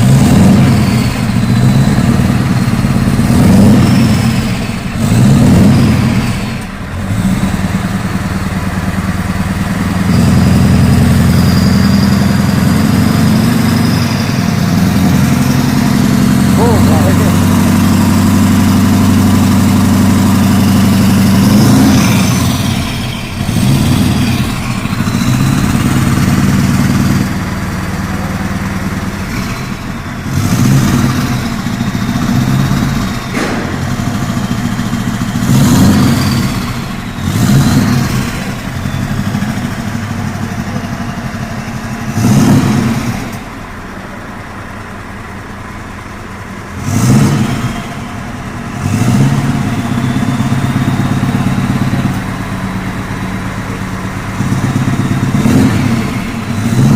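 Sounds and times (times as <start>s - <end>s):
diesel engine revving: 0.0s - 56.9s.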